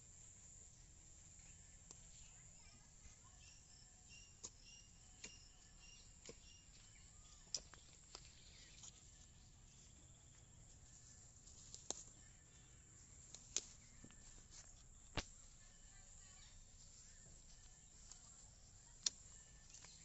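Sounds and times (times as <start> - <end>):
faint high chirping: 0.1 - 20.0.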